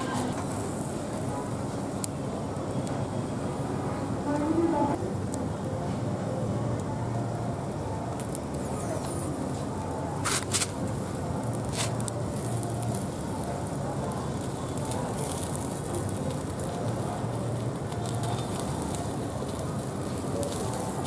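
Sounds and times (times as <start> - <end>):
skewers sizzling over charcoal: 0.0 - 21.0.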